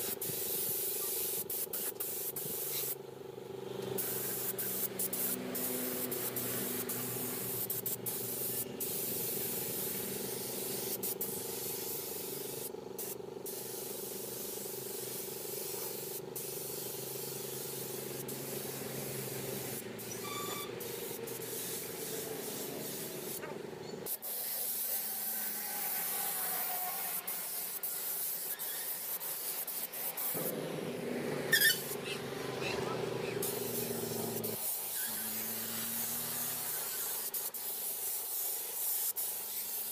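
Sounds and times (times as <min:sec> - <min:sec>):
spray gun hissing: 0:00.0 - 0:03.0, 0:04.0 - 0:23.4, 0:24.0 - 0:32.2, 0:33.2 - 0:39.9.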